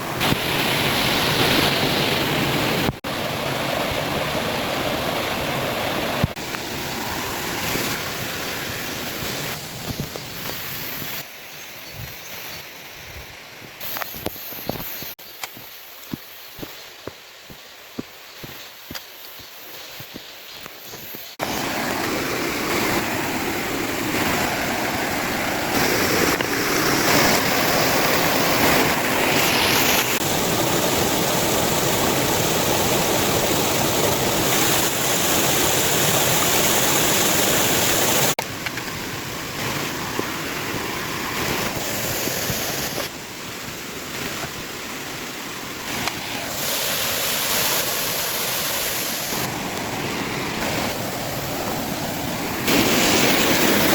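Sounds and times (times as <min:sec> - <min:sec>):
waterfall rushing: 0:00.0 - 0:11.2, 0:21.3 - 0:53.9.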